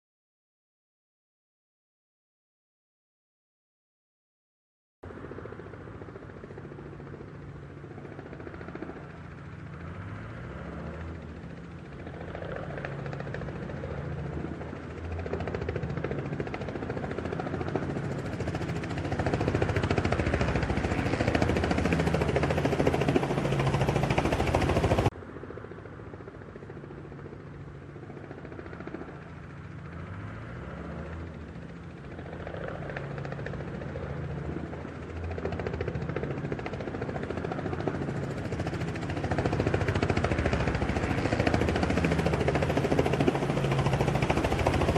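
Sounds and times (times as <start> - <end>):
helicopter rotor and engine: 5.0 - 44.9.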